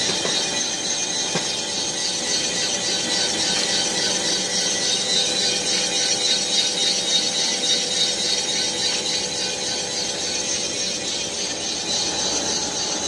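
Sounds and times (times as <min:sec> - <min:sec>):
boring machine cutting metal: 0:00.0 - 0:13.0.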